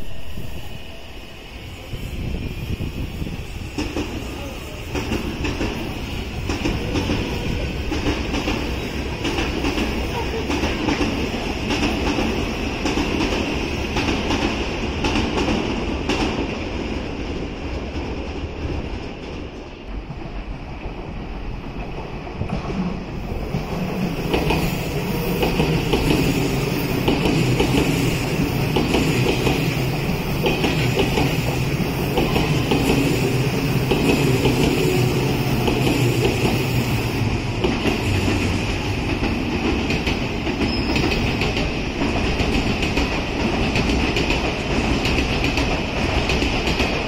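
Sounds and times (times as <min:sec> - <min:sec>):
train high whine: 0:00.0 - 0:21.6, 0:22.4 - 0:47.0
train rumble: 0:00.0 - 0:47.0.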